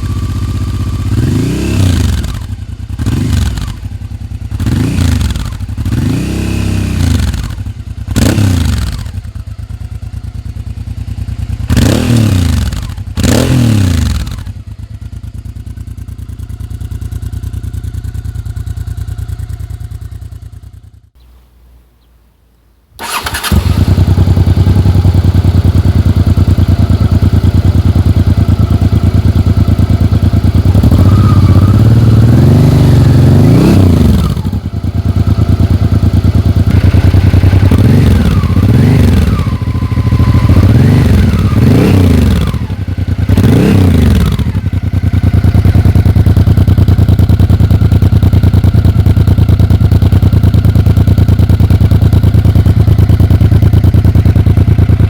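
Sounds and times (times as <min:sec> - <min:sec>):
motorcycle engine idling and revving: 0:00.0 - 0:21.4, 0:23.0 - 0:55.0.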